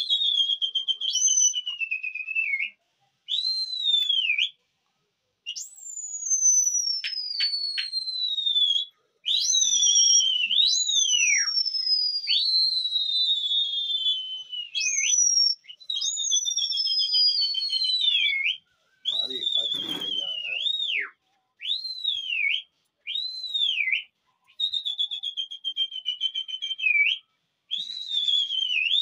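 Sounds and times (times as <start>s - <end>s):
shrill whistles: 0.0s - 4.6s, 5.5s - 29.0s.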